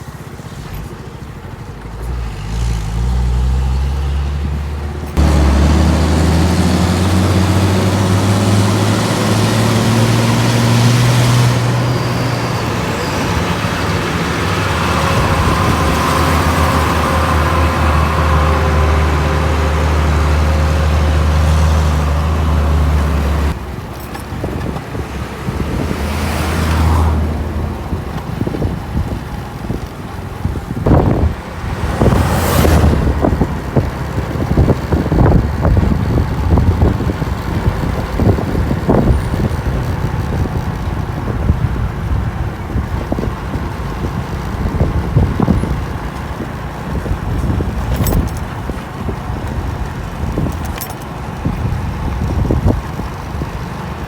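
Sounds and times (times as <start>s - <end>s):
heavy truck engine running: 0.0s - 54.0s
road noise: 0.0s - 54.0s
traffic noise: 0.0s - 54.0s.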